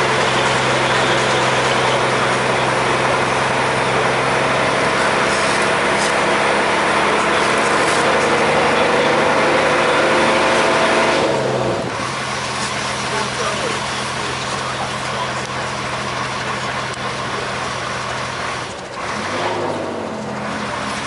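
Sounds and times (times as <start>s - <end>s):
bus engine labouring: 0.0s - 21.0s.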